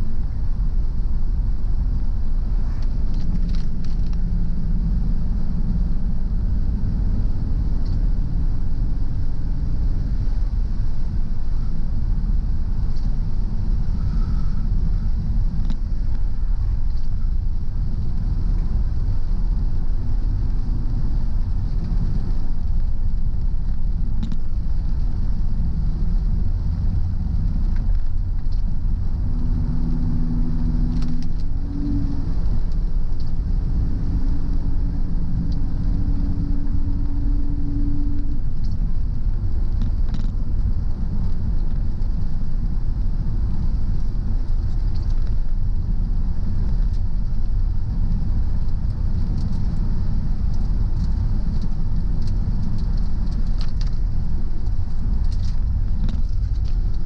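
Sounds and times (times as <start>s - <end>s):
car engine and road noise: 0.0s - 57.0s
faint engine hum: 0.0s - 57.0s.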